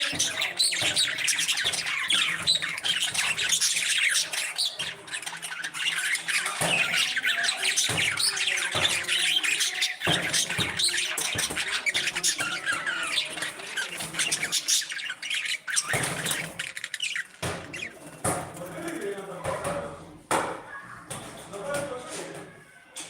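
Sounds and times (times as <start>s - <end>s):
parrots calling: 0.0s - 21.3s.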